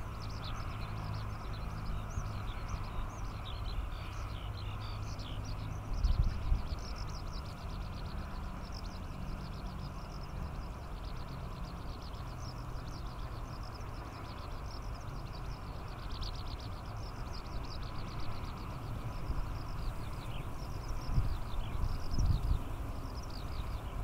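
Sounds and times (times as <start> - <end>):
skylark singing: 0.0 - 24.0.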